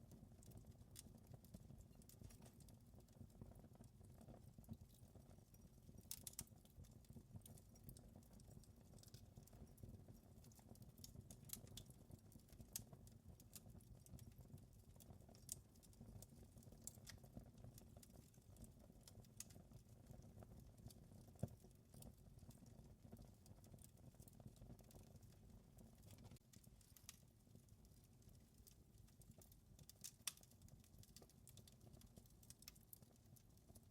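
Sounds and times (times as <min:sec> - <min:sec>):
fire crackling in fireplace: 0:00.0 - 0:33.9.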